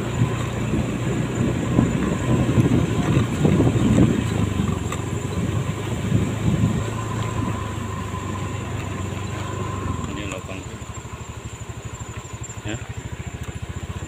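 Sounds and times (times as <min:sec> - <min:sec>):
motorcycle engine hum: 0:00.0 - 0:14.0
motorcycle rattling over ruts: 0:00.0 - 0:14.0.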